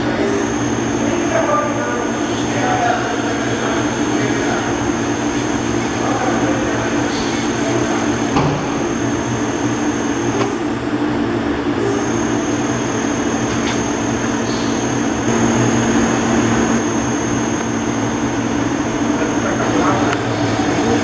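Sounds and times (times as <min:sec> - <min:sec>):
lathe machine hum: 0:00.0 - 0:21.0.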